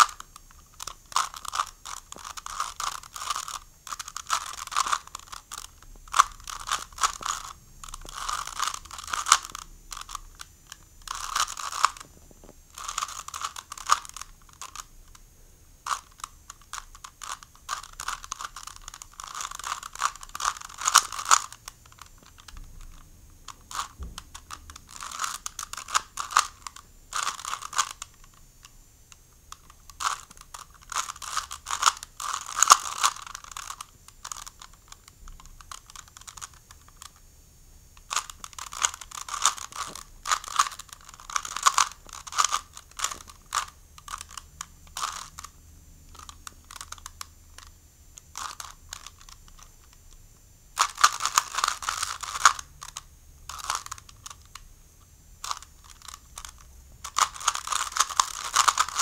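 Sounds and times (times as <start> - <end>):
puzzle cube clicking as turned: 0.0 - 12.1, 12.7 - 15.2, 15.8 - 37.2, 38.0 - 50.2, 50.8 - 54.7, 55.4 - 59.0.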